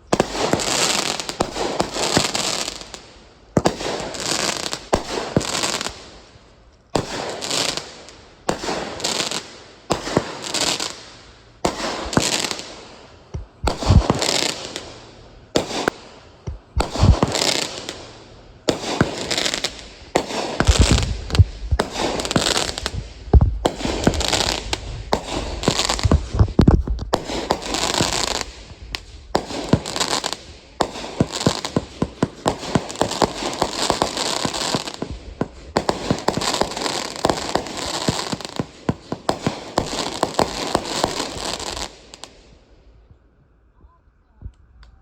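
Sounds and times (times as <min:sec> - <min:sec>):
deep fireworks booms: 0:00.0 - 0:06.0, 0:06.9 - 0:09.1, 0:09.8 - 0:43.2
fireworks crackling pops: 0:00.0 - 0:43.2.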